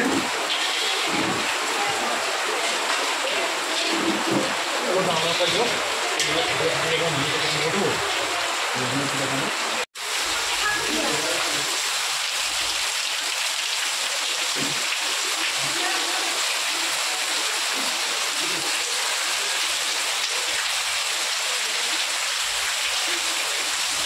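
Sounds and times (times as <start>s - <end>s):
heavy rain on wet paving: 0.0s - 24.0s.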